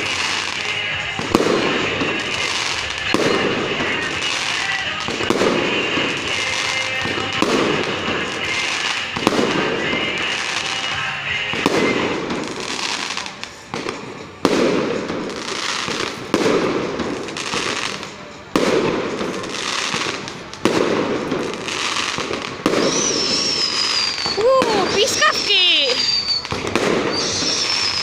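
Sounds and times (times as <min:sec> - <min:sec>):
crackling hiss of fireworks: 0:00.0 - 0:28.0
firework bangs: 0:00.0 - 0:28.0.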